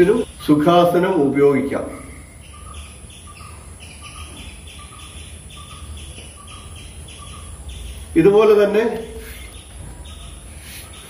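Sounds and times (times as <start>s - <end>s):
bird chirping: 0.0s - 11.0s
faint high-pitched whine: 0.0s - 11.0s.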